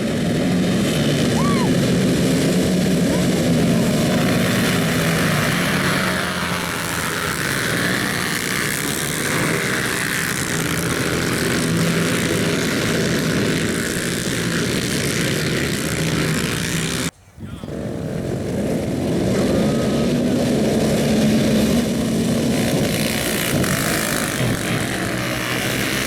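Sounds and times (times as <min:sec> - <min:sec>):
atv engines droning: 0:00.0 - 0:26.0.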